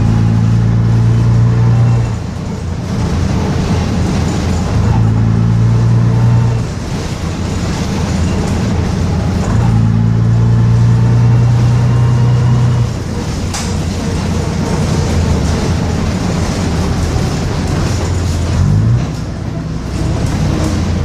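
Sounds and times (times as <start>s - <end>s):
bus diesel engine under load: 0.0s - 21.0s.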